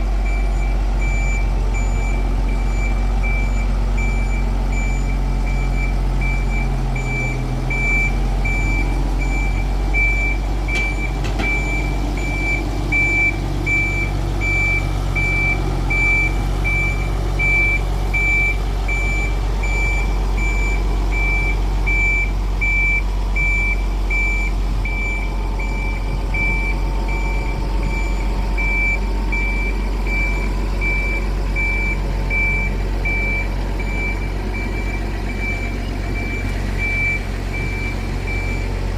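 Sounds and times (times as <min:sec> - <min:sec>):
low rumble of moving vehicle: 0:00.0 - 0:38.9
vehicle reversing beeper: 0:00.0 - 0:38.9.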